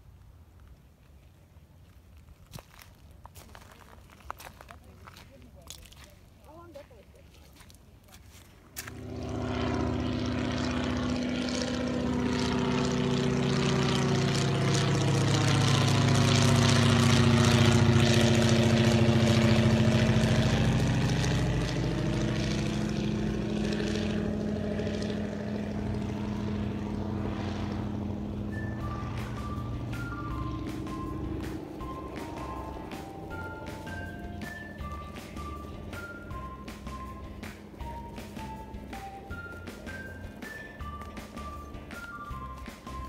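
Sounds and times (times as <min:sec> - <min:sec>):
propeller plane engine droning: 0:00.0 - 0:43.0.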